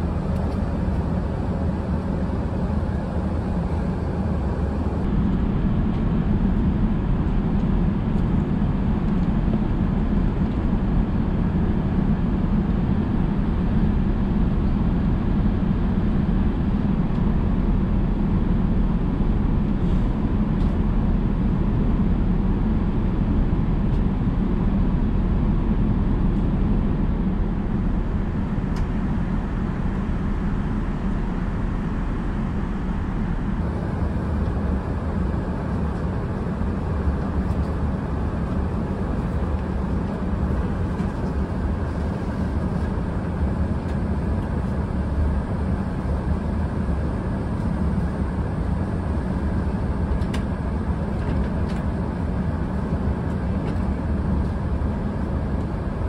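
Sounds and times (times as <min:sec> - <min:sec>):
airplane cabin engine noise: 0:00.0 - 0:56.0.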